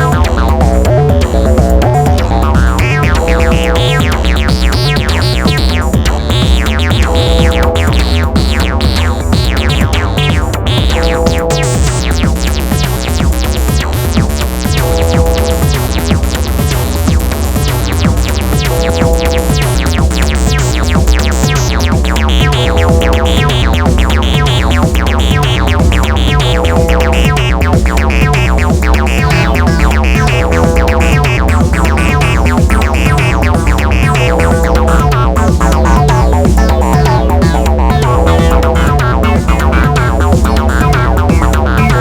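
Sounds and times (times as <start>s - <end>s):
deep synth bass: 0.0s - 42.0s
synthesizer acid sequence: 0.0s - 42.0s.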